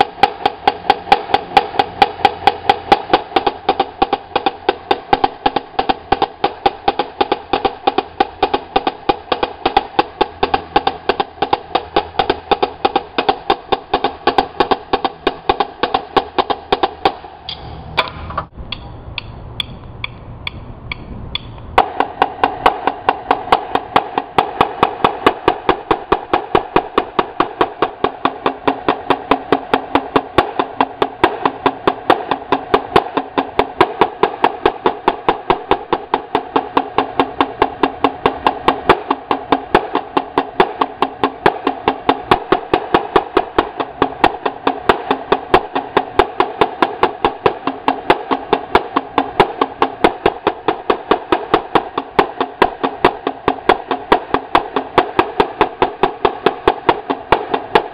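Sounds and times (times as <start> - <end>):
marching snare drums: 0.0 - 17.4, 21.8 - 57.9.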